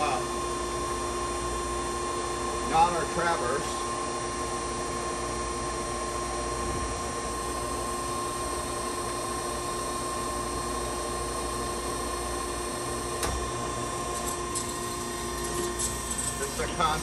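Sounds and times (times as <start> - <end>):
grinder hum and whine: 0.0 - 17.0.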